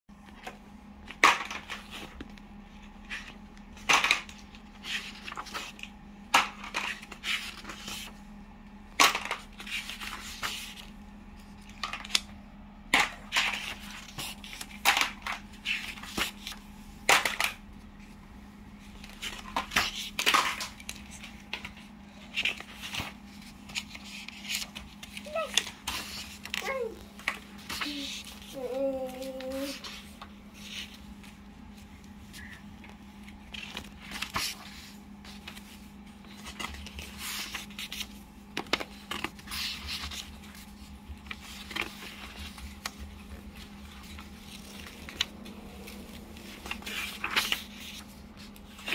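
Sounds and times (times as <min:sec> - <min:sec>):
paper pages turning: 0:01.3 - 0:08.2, 0:08.9 - 0:12.3, 0:12.9 - 0:48.9.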